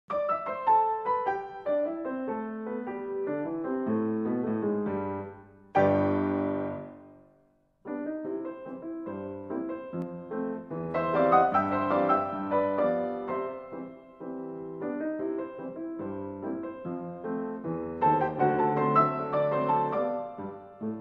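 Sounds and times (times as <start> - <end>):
solo piano music: 0.1 - 21.0.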